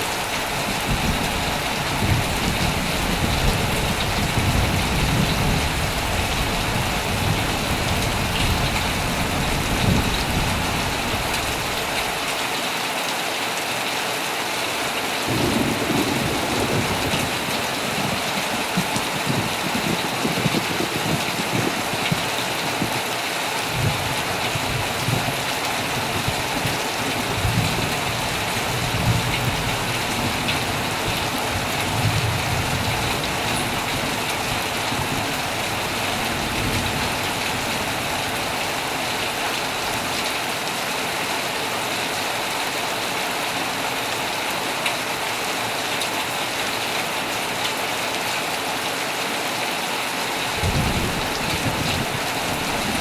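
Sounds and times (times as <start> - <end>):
heavy rain on a tent: 0.0 - 53.0.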